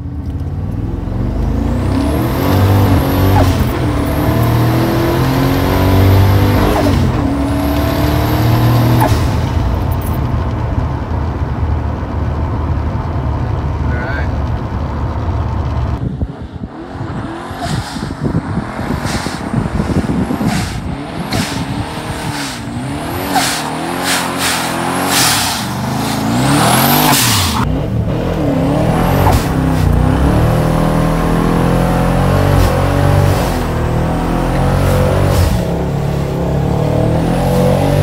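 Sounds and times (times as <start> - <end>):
truck engine accelerating: 0.1 - 38.0.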